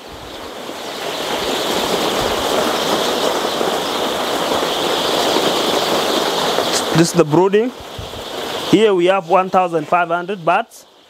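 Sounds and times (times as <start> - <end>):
chicks cheeping: 0.0 - 11.0.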